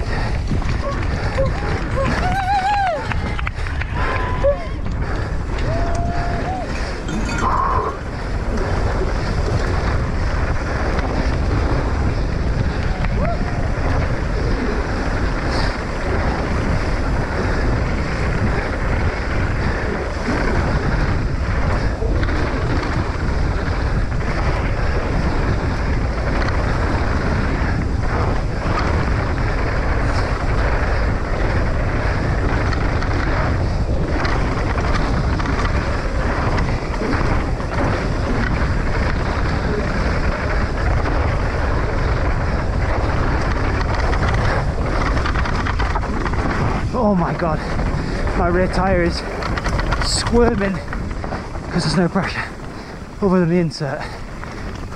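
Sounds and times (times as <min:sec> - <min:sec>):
tyres rolling over dirt and stones: 0:00.0 - 0:04.0, 0:04.8 - 0:54.9
wind buffeting on camera: 0:00.0 - 0:54.9
bike knocks and rattles: 0:08.4 - 0:53.2.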